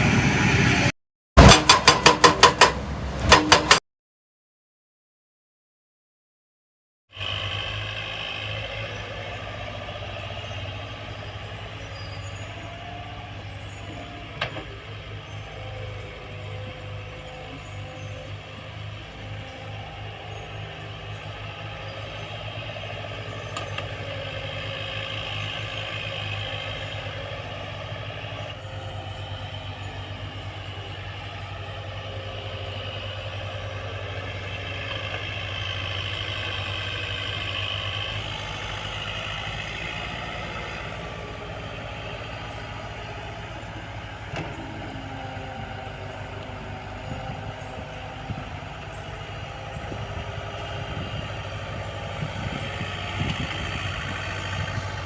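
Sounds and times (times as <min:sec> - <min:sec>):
diesel engine running: 0:07.1 - 0:55.0.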